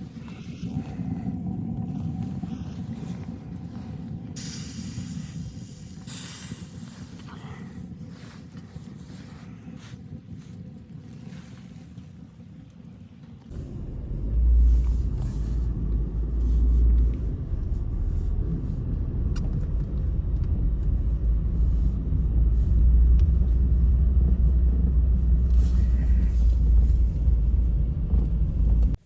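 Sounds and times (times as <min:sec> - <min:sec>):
blizzard wind buffeting microphone: 0:00.0 - 0:29.0.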